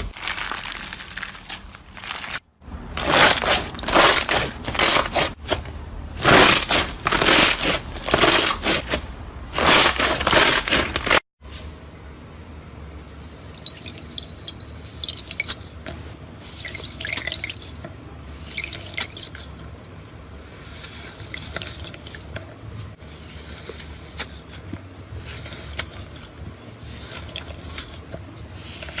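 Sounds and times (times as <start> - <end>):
slime squelching by hand: 0.0 - 11.2, 13.4 - 29.0.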